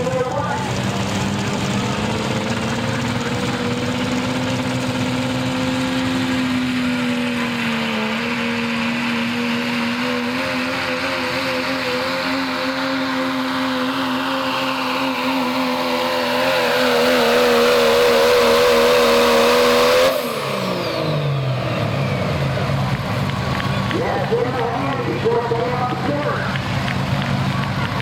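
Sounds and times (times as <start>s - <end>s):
diesel truck engine at full throttle: 0.0s - 28.0s.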